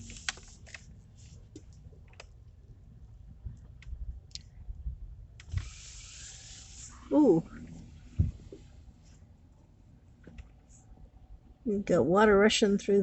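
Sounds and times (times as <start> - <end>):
low rumble inside car cabin: 0.0 - 13.0.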